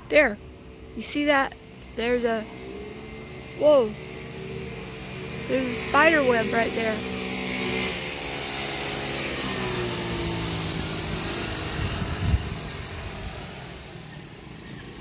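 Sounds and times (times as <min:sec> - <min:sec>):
moped engine passing by: 0:00.2 - 0:15.0.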